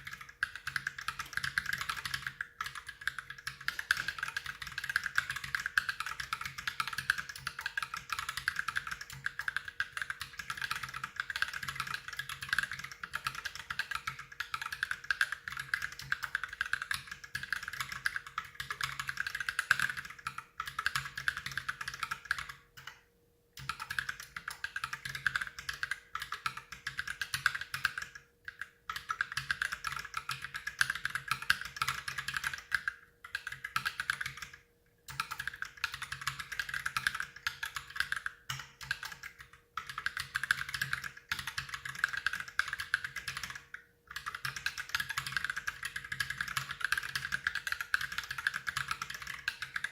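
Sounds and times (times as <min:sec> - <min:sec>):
typing on mechanical keyboard: 0:00.0 - 0:23.0, 0:23.6 - 0:49.9.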